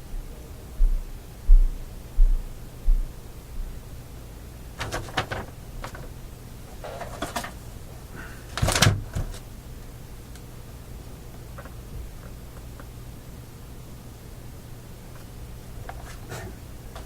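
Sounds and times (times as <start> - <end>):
low mains hum: 0.0 - 17.0.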